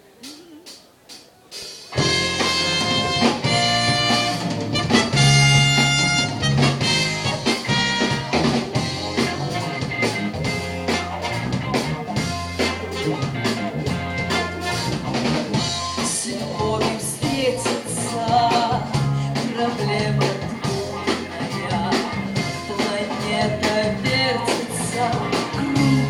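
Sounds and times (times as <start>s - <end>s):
live band playing: 0.0s - 26.0s
steady bass line: 1.9s - 26.0s.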